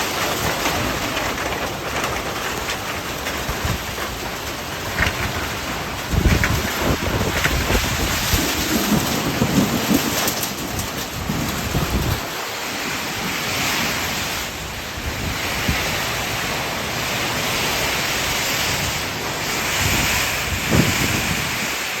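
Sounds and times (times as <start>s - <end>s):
heavy rain and wind: 0.0s - 22.0s
low rumbling gusts: 0.0s - 22.0s.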